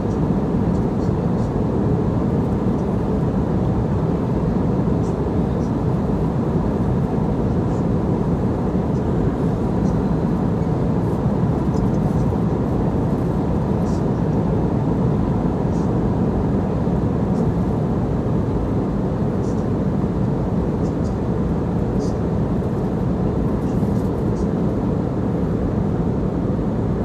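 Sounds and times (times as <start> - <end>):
airliner cabin engine roar: 0.0 - 27.0.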